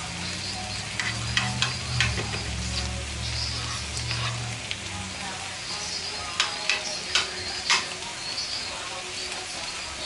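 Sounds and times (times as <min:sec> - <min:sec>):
egg sizzling in frying pan: 0:00.0 - 0:10.0.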